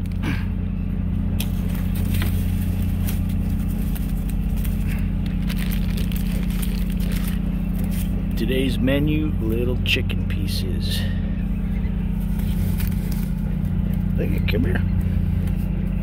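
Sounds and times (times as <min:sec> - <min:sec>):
fishing vessel machinery drone: 0:00.0 - 0:16.0.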